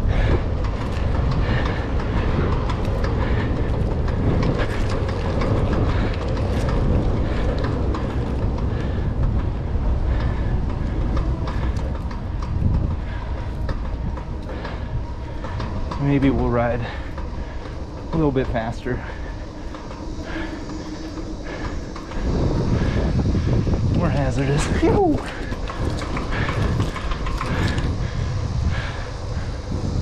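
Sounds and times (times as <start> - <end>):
bicycle clicks and rattles: 0.0 - 30.0
tyres rumbling on pavement: 0.0 - 30.0
wind rush over microphone: 0.0 - 30.0.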